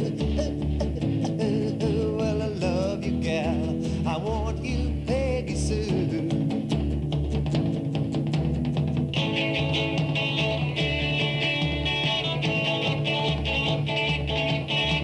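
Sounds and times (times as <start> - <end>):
rock and roll music: 0.0 - 15.0.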